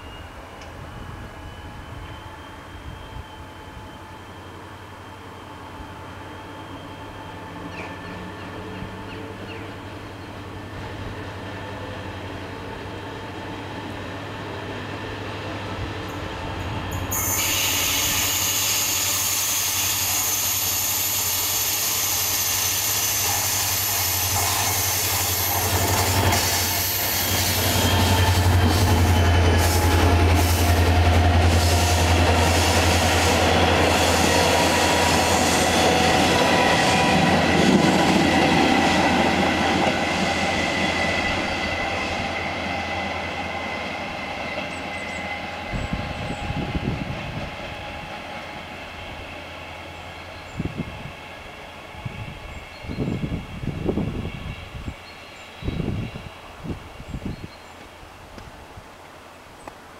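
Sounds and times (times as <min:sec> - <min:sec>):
train wheel rumble: 0:00.0 - 0:59.2
diesel locomotive engine drone: 0:00.0 - 0:59.9.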